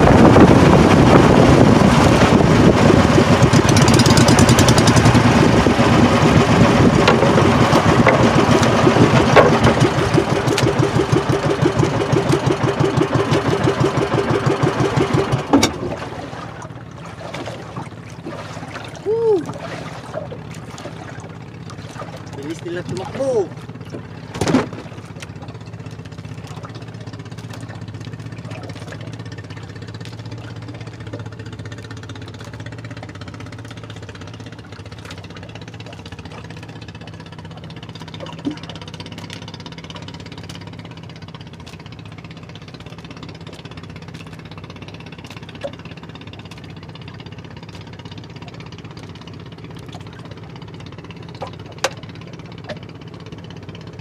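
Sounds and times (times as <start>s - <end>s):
boat engine chugging: 0.0s - 54.0s.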